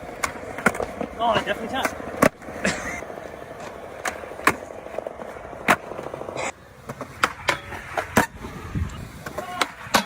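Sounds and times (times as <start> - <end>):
skateboard clacking on ground: 0.0 - 10.0
skateboard rolling: 0.0 - 10.0.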